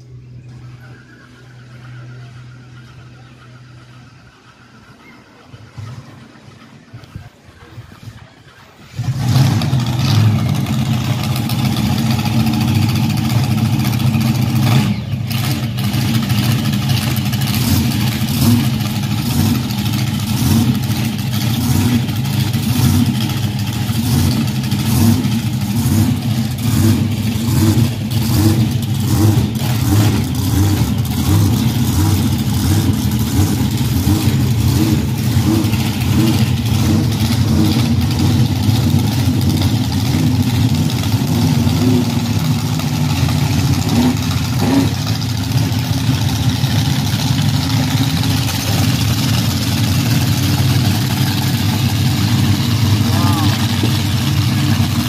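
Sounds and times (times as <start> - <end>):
monster truck engines revving: 0.0 - 55.0.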